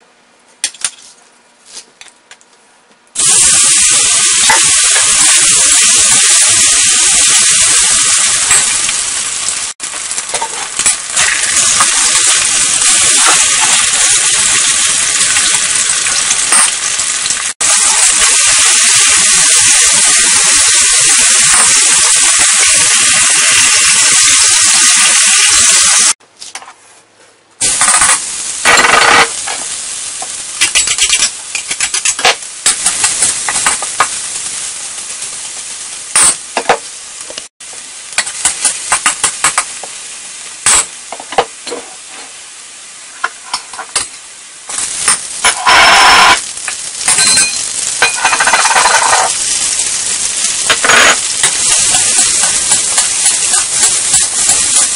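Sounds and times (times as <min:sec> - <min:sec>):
food sizzling in a wok: 0:03.2 - 0:26.2, 0:27.6 - 0:54.9.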